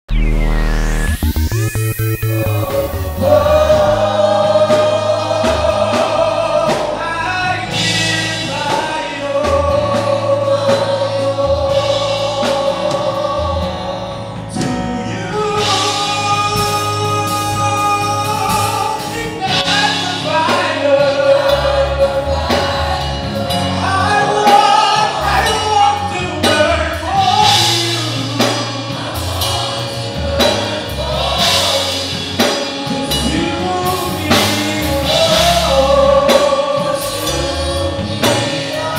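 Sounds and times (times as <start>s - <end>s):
band bass and drums: 0.0s - 38.9s
choir singing gospel song: 2.0s - 38.9s.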